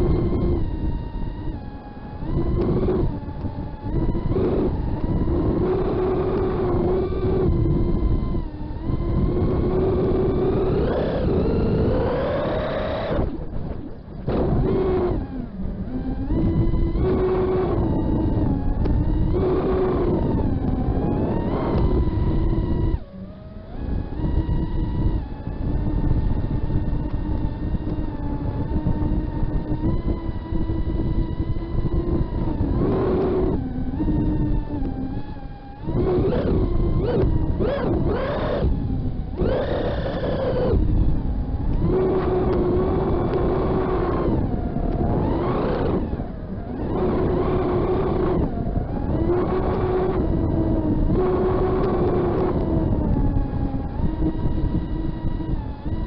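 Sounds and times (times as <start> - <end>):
drone motors whining: 0.0 - 56.0
wind rumble on microphone: 0.0 - 56.0.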